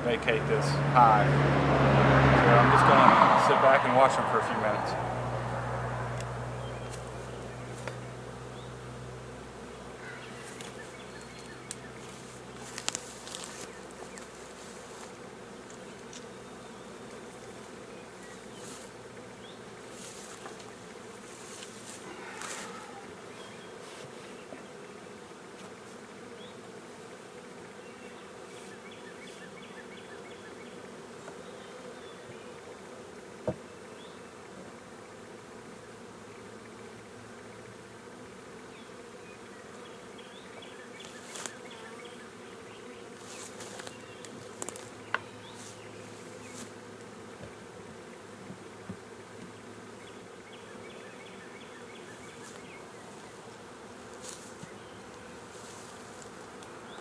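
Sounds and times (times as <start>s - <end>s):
bee swarm humming: 0.0s - 57.0s.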